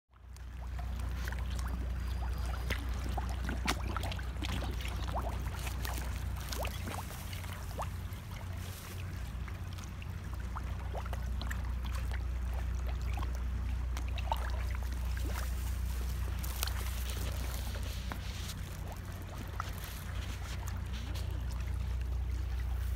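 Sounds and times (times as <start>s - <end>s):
low rumble: 0.2s - 22.9s
fish slurping at water surface: 0.4s - 22.9s.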